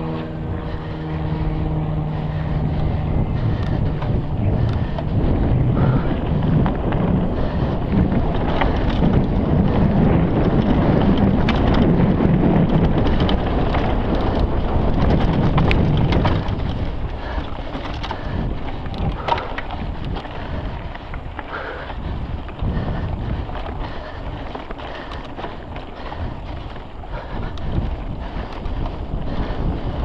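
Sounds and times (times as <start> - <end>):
bike clicks and rattles: 0.0 - 30.0
wind buffeting microphone: 0.0 - 30.0.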